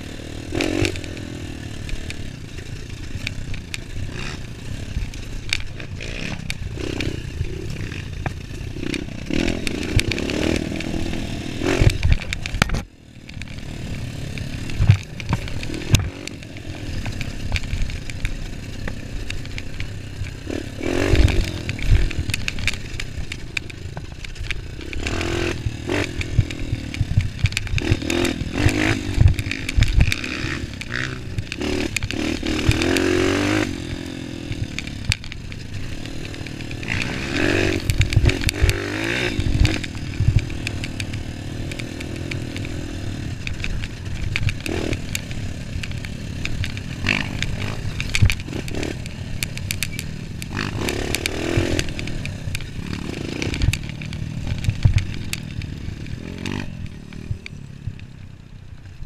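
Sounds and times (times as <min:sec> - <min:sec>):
dirt bike engine revving: 0:00.0 - 0:58.5
bike rattling over bumps: 0:00.0 - 0:59.0.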